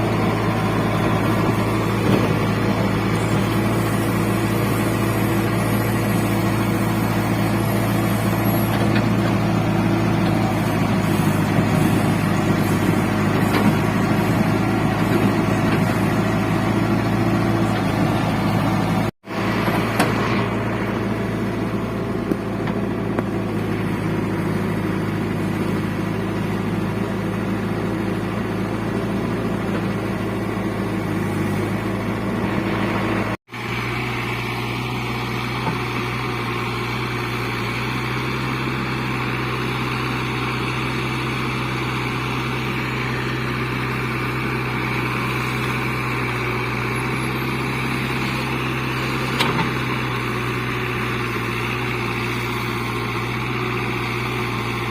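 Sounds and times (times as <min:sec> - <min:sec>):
backhoe diesel engine running: 0:00.0 - 0:54.9.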